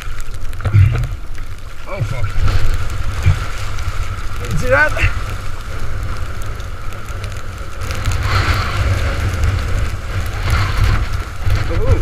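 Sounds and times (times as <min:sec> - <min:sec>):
spray and choppy water: 0:00.0 - 0:12.0
storm wind buffeting microphone: 0:00.0 - 0:12.0.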